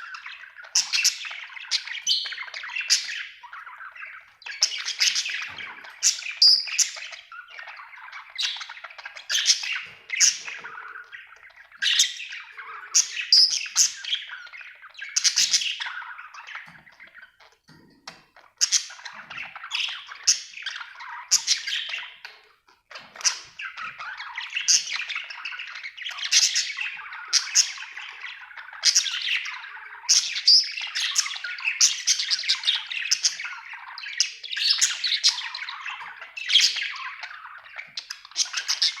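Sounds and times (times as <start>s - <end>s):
budgerigar chirping and chattering: 0.0s - 39.0s.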